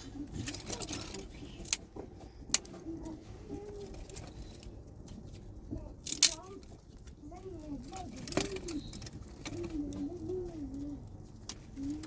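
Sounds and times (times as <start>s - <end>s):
utensils clinking and rattling: 0.0s - 12.0s.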